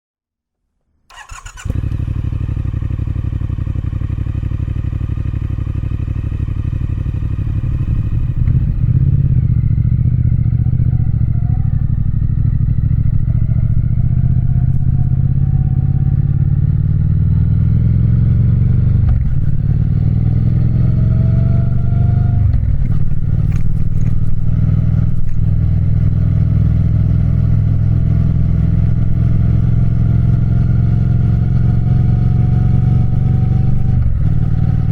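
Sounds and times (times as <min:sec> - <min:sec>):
motorcycle engine starting and running: 0:01.1 - 0:34.9.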